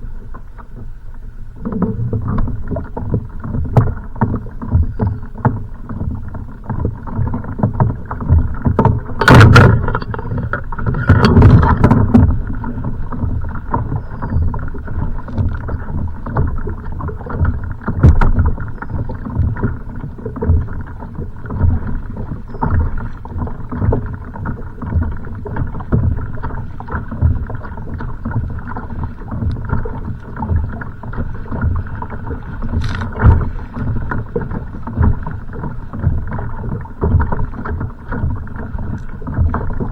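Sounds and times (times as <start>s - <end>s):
waves slapping against kayak hull: 0.0s - 39.9s
knocks and splashes: 1.6s - 39.9s
wind buffeting microphone: 1.6s - 39.9s.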